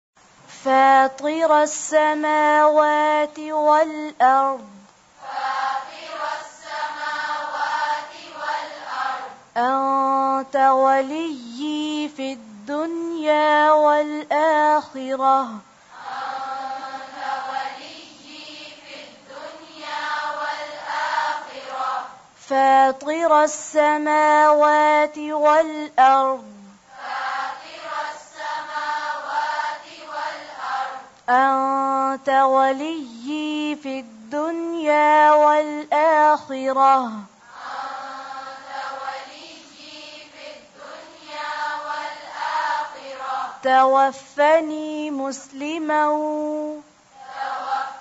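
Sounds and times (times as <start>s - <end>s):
woman reciting: 0.5s - 48.0s.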